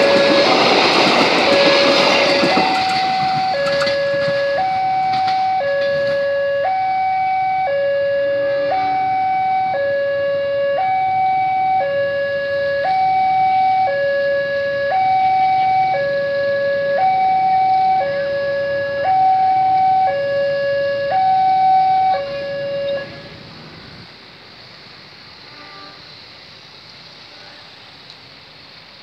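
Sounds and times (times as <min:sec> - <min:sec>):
two-tone hi-lo siren: 0:00.0 - 0:23.4.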